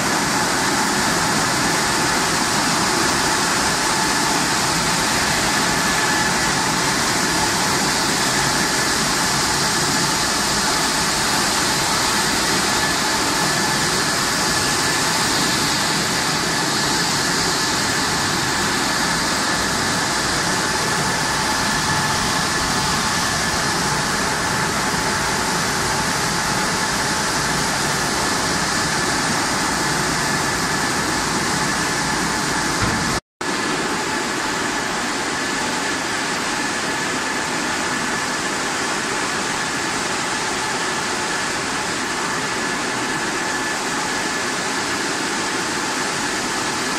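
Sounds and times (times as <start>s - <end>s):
motors and conveyors whining: 0.0s - 46.9s.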